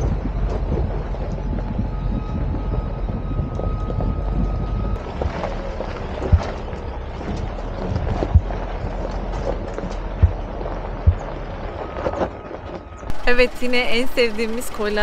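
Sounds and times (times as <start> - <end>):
tyres rumbling on gravel: 0.0 - 15.0
vehicle engine running: 0.0 - 15.0.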